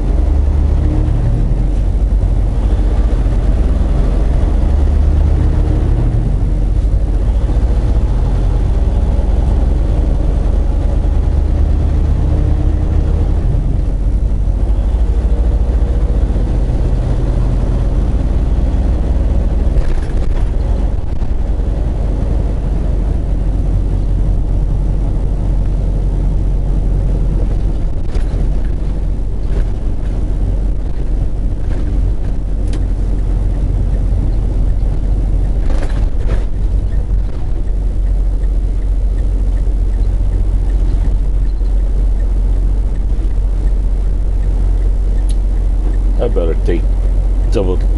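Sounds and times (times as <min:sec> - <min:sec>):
truck diesel engine rumbling: 0:00.0 - 0:47.9.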